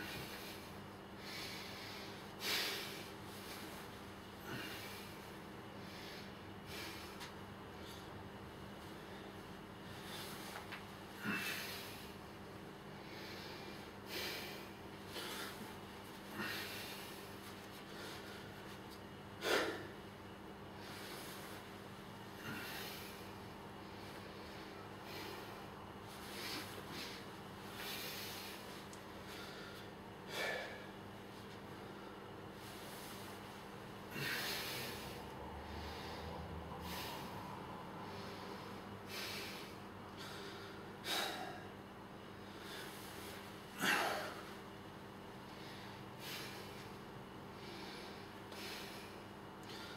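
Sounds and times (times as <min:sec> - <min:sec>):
man breathing hard: 0:00.0 - 0:08.2, 0:08.8 - 0:49.9.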